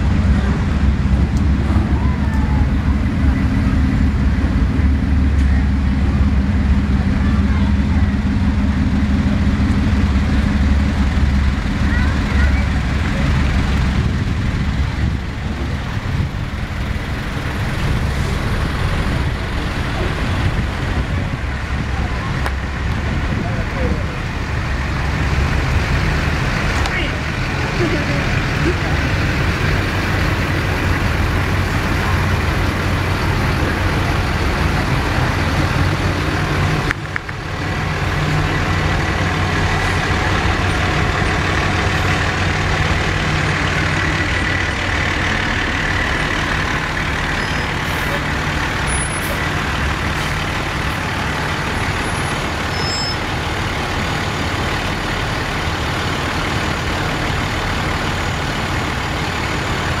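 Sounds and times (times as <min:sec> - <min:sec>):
diesel engines running: 0:00.0 - 1:00.0.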